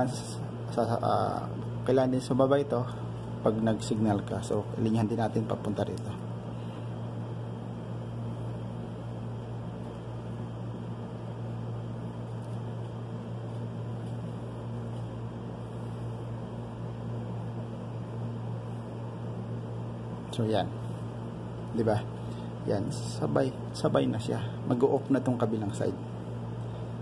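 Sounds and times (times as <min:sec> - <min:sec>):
room machinery hum: 0:00.0 - 0:27.0.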